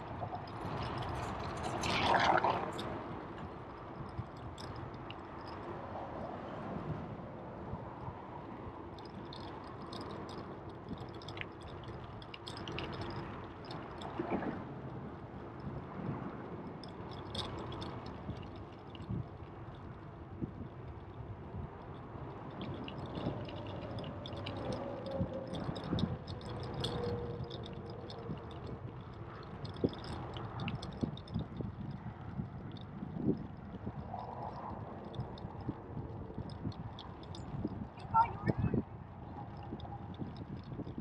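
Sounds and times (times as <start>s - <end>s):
bicycle rattles and clicks: 0.0s - 41.0s
bicycle riding rush: 0.0s - 41.0s.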